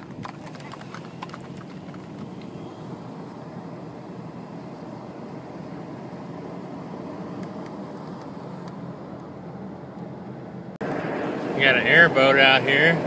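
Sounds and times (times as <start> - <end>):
car road noise: 0.0 - 13.0.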